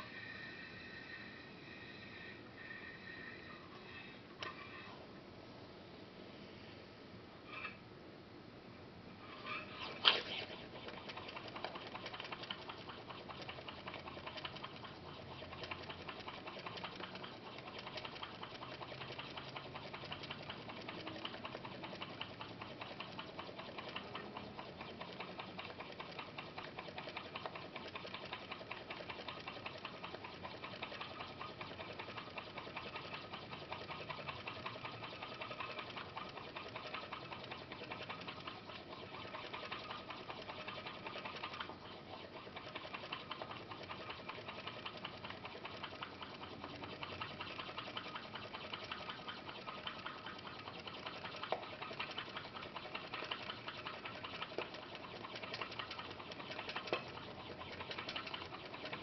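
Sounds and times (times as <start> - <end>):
pop-pop steam motor pulsing: 0.0 - 5.0, 9.2 - 59.0.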